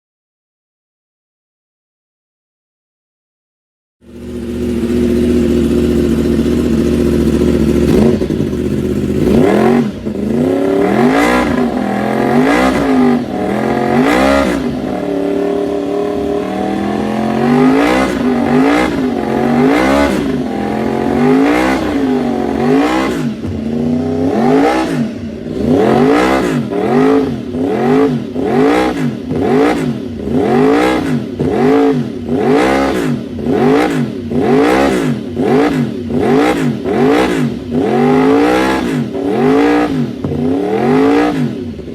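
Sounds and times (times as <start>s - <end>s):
motorcycle engine revving: 4.0s - 41.9s.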